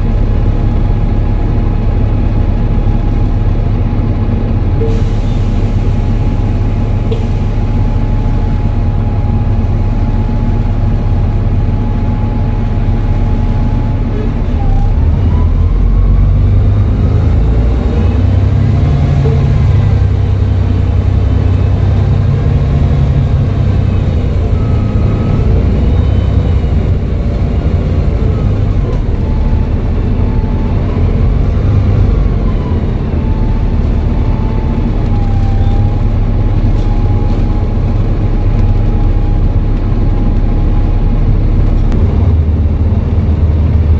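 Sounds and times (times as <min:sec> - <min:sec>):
bus engine rumbling: 0:00.0 - 0:43.9.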